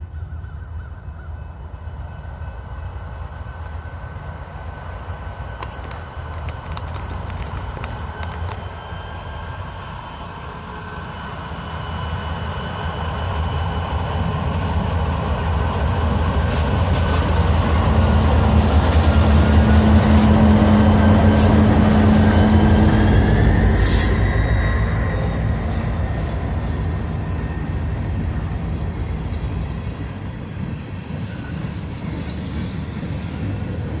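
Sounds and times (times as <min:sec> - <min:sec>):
diesel locomotive engines rumbling: 0:00.0 - 0:34.0.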